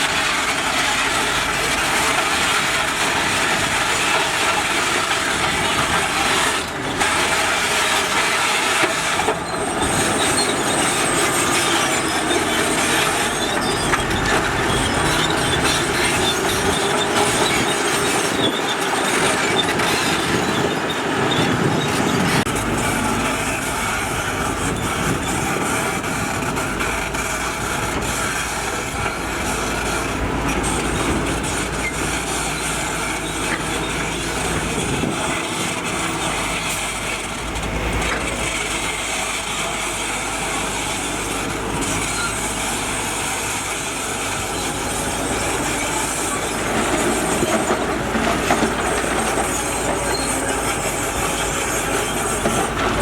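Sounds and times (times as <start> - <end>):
diesel engine of heavy machinery: 0.0 - 53.0
metallic track clatter and squeal: 0.0 - 53.0.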